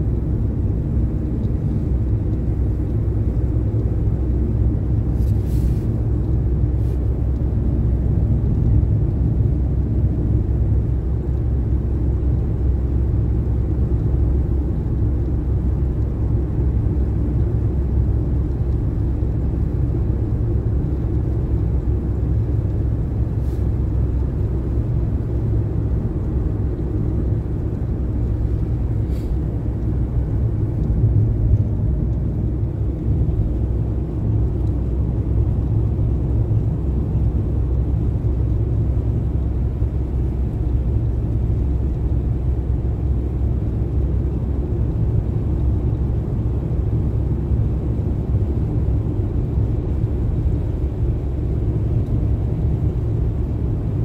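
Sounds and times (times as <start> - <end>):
engine hum: 0.0 - 54.0.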